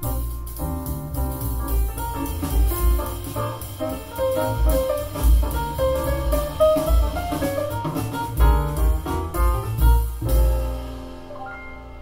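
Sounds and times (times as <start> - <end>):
instrumental jazz through speakers: 0.0 - 12.0.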